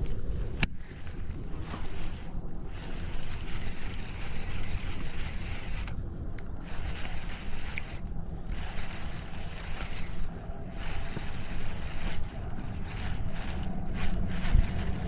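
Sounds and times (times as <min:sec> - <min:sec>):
wind rumbling on microphone: 0:00.0 - 0:15.0
fishing reel cranking: 0:01.0 - 0:06.0, 0:06.6 - 0:15.0.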